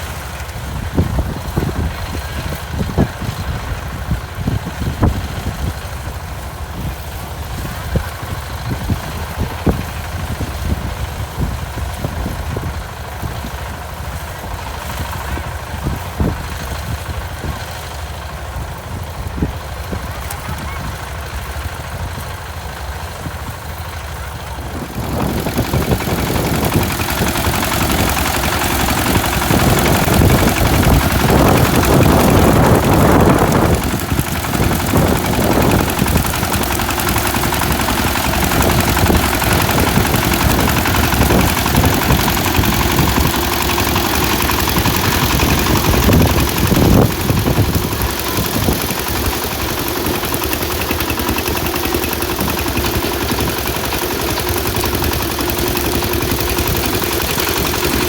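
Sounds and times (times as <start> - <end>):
harvesting machine engine running: 0.0 - 58.0
loud mechanical rattling: 0.0 - 58.0.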